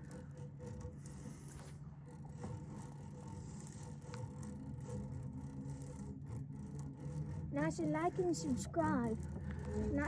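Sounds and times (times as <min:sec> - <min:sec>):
fishing reel whirring: 0:00.0 - 0:10.0
steady low hum: 0:00.0 - 0:10.0.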